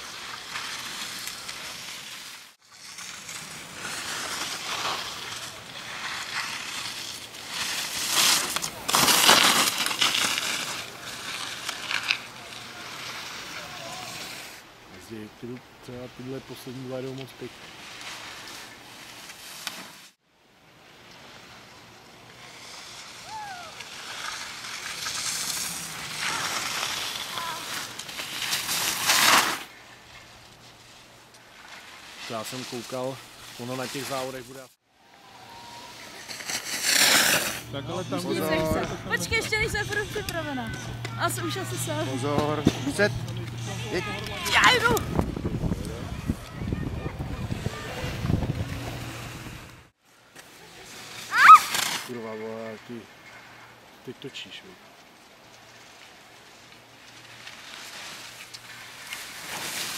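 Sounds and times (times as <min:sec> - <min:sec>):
skis scraping on hard snow: 0:00.0 - 0:20.2, 0:20.9 - 0:34.8, 0:35.5 - 0:53.6, 0:55.0 - 0:59.9.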